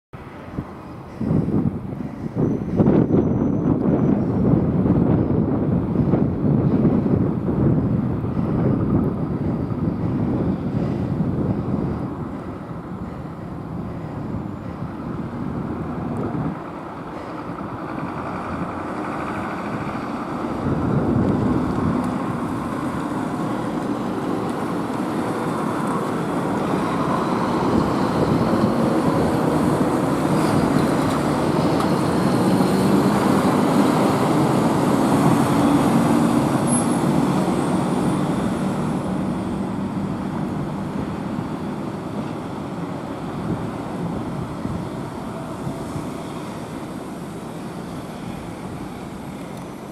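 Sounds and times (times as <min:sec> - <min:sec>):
fire engines driving by: 0:00.2 - 0:49.9.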